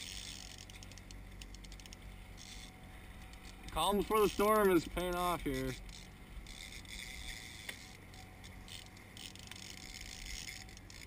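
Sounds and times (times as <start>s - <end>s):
trolling motor running: 0.0s - 11.0s
wind and water hiss: 0.0s - 11.0s.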